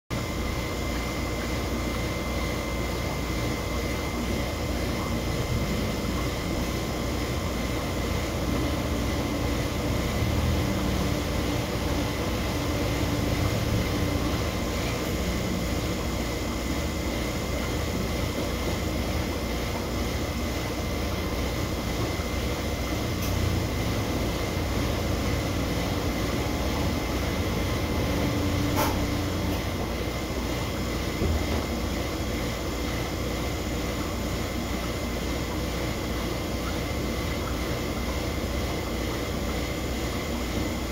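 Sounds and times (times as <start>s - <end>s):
aquarium air pump hum and hiss: 0.1s - 40.9s.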